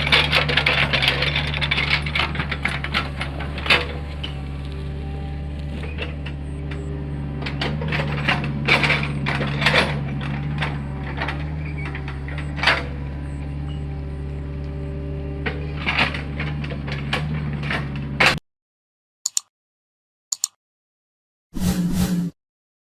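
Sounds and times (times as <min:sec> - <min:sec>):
diesel engine running: 0:00.0 - 0:18.4
excavator knocks and clatter: 0:00.0 - 0:18.4.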